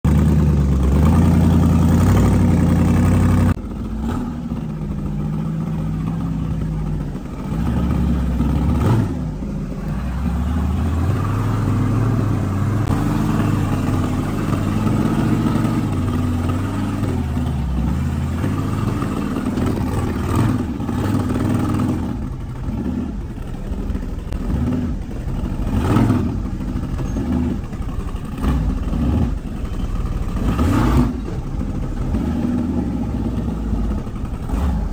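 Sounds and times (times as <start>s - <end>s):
buggy engine revving: 0.0s - 34.9s.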